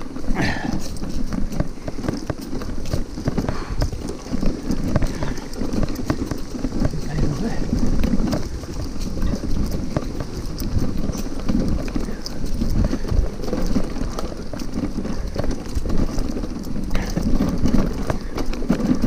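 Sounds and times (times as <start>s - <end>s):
bicycle rumbling on dirt trail: 0.0s - 19.0s
bike knocking and rattling: 0.0s - 19.0s.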